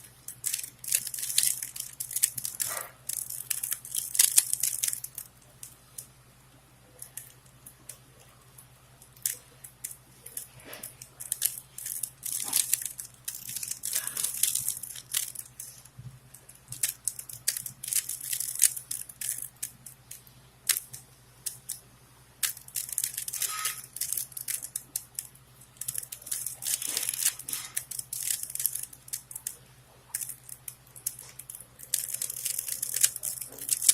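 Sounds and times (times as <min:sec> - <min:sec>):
puzzle cube layers clicking: 0:00.0 - 0:06.1, 0:09.1 - 0:21.8, 0:22.4 - 0:33.9.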